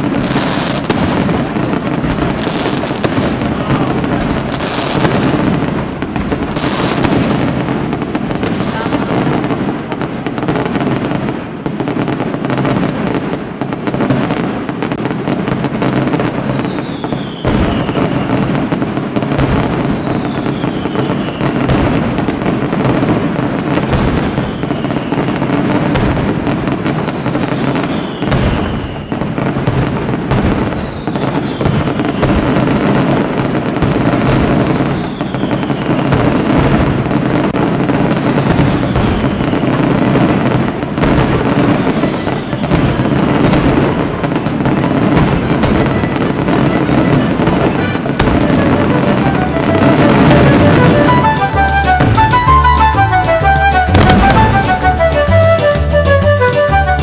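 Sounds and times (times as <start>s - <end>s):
falling firework whistle: 0.0s - 57.0s
firework bursts and bangs: 0.0s - 57.0s.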